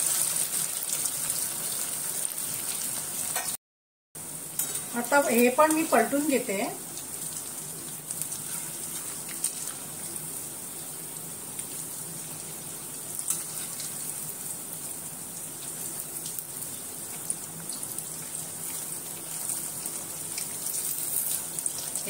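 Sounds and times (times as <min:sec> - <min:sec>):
food sizzling in hot oil: 0:00.0 - 0:03.6, 0:04.2 - 0:22.0.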